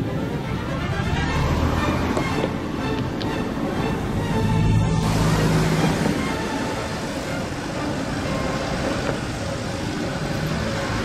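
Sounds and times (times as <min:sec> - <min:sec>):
passing train running noise: 0:00.0 - 0:11.0.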